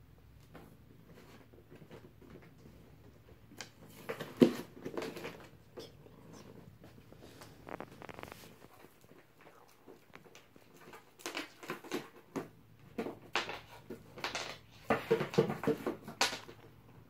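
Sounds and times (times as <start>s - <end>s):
cat rustling paper and cardboard: 1.0s - 5.8s, 6.7s - 16.6s.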